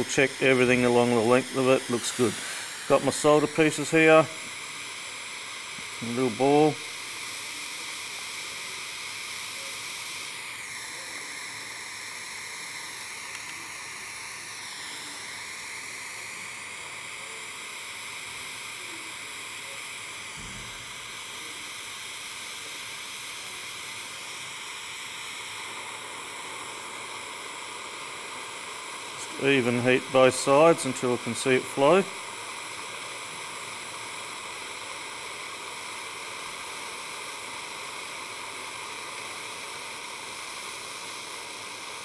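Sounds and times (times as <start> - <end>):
gas torch flame hissing: 0.0 - 42.0.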